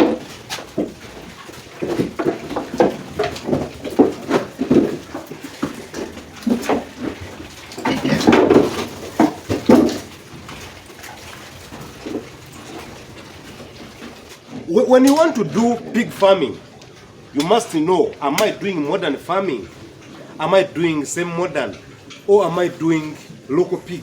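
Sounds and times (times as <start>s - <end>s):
pigs grunting: 0.0s - 24.0s.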